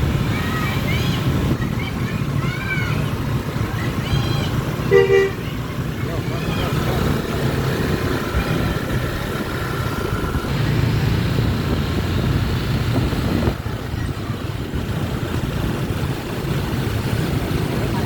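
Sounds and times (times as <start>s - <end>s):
vehicle engines rumbling in traffic: 0.0s - 18.0s.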